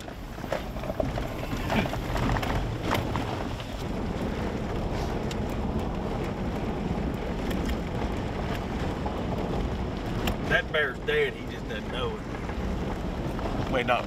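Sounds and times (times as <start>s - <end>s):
tyres and engine rumble in cab: 0.0s - 14.0s.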